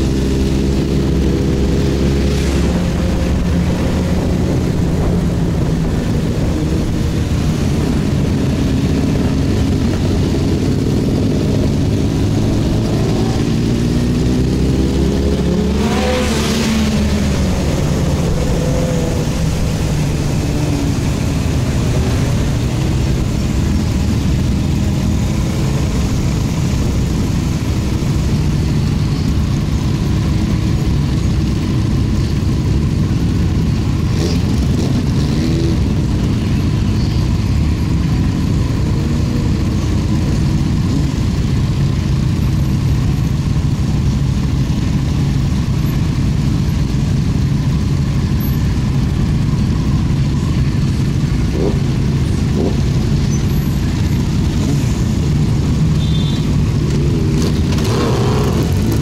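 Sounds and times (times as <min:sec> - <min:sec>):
motorcycle engine running: 0:00.0 - 0:59.0
road rumble: 0:00.0 - 0:59.0
wind: 0:00.0 - 0:59.0.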